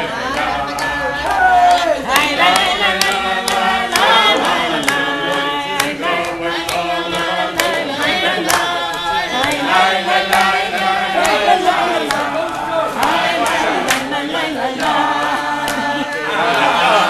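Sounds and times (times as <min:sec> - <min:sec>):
group of people singing: 0:00.0 - 0:17.0
hand claps: 0:00.2 - 0:16.6.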